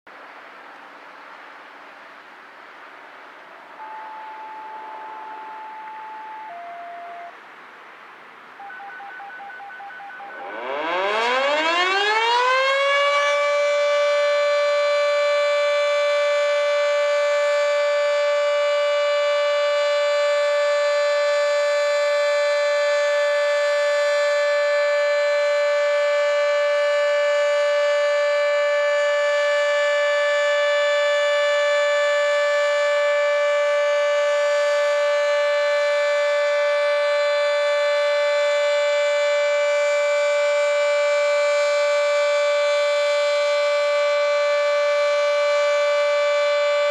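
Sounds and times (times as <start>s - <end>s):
electromechanical warning siren chord: 3.8s - 7.5s, 8.5s - 46.9s.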